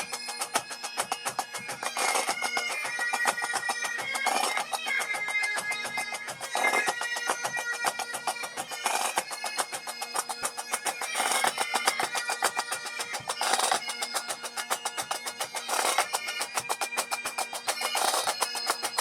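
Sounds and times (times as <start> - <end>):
bagpipes playing melody over drones: 0.0 - 19.0
rapid snare drumming: 0.0 - 19.0.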